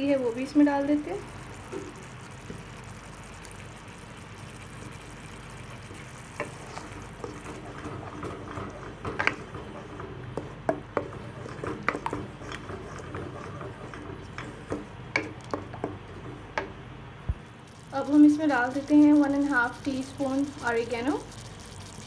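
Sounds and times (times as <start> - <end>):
spatula stirring and scraping pan: 0.0 - 17.0, 17.6 - 22.0
sauce simmering in a pan: 0.0 - 22.0.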